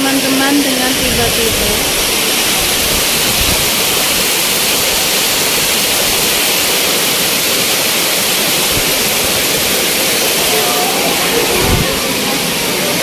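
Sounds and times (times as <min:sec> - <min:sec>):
heavy rain pouring: 0:00.0 - 0:13.0
strong wind: 0:00.0 - 0:13.0.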